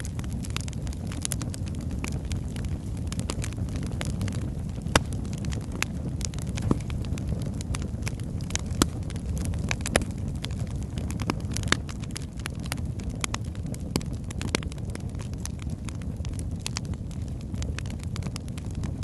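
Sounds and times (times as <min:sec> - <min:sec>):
logs crackling in fireplace: 0:00.0 - 0:19.0.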